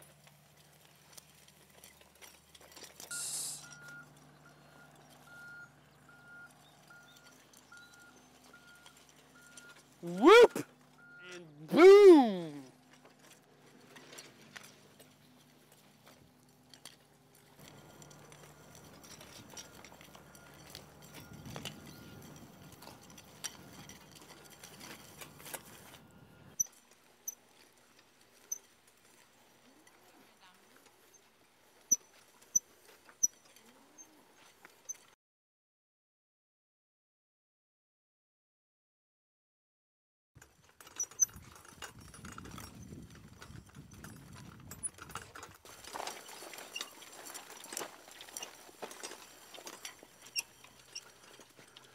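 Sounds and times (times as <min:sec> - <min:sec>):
wheel hoe running through soil: 0:00.0 - 0:35.1, 0:40.4 - 0:51.9.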